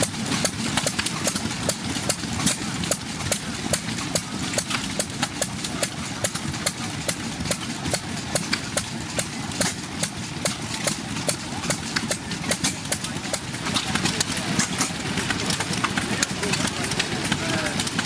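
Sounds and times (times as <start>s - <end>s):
engine running with sharp clacks: 0.0s - 18.0s.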